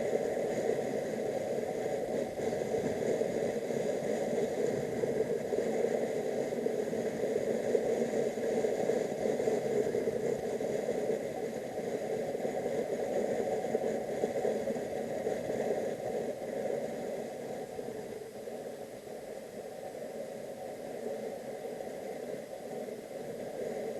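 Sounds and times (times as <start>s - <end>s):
wind rush on microphone: 0.0s - 23.9s.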